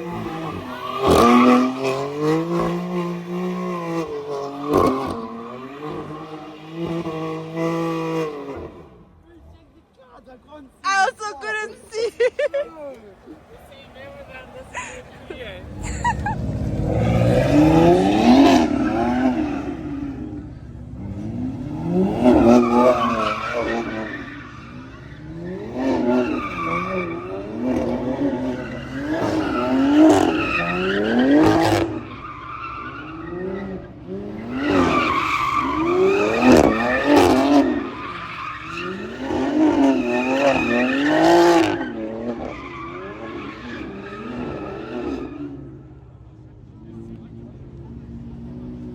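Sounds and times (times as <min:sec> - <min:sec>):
car engine revving: 0:00.0 - 0:09.7, 0:12.9 - 0:48.9
tyres squealing and skidding: 0:00.0 - 0:46.3.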